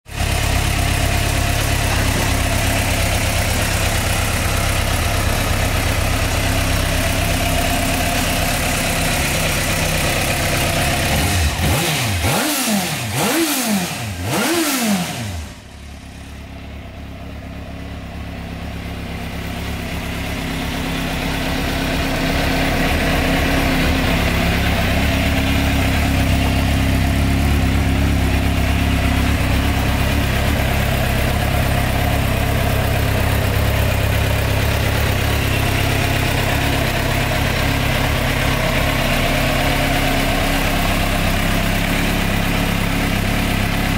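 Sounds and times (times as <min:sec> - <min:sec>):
motorcycle engine idling: 0:00.1 - 0:43.9.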